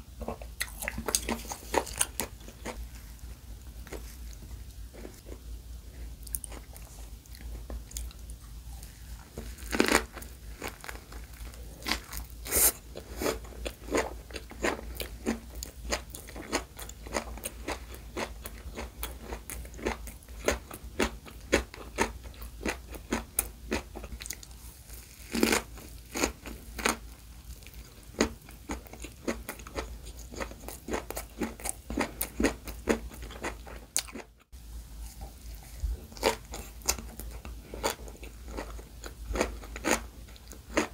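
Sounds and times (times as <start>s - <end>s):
crisp chewing crunches: 0.2s - 5.4s, 6.2s - 34.4s, 35.0s - 40.9s.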